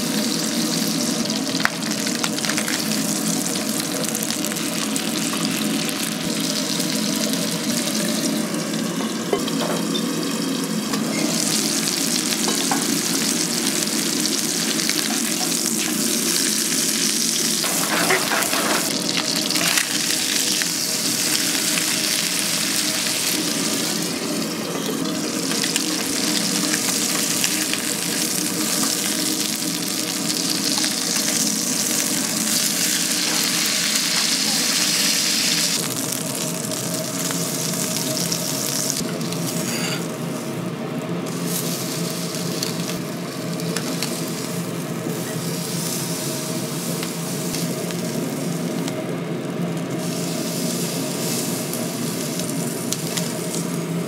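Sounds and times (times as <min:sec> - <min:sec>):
chicken sizzling in oil: 0:00.0 - 0:54.0.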